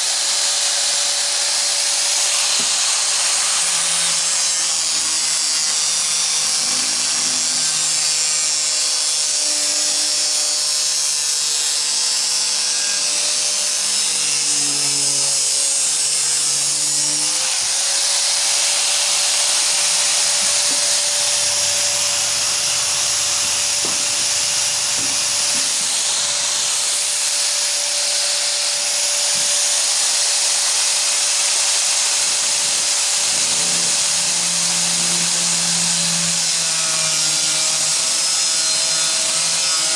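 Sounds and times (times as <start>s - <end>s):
power tool on sheet metal: 0.0s - 39.9s.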